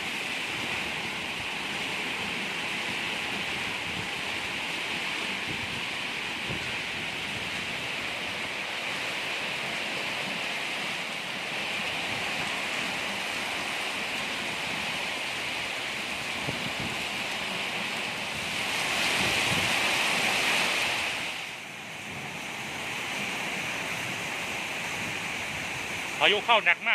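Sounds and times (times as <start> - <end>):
heavy rain: 0.0 - 26.9
wind: 0.0 - 26.9.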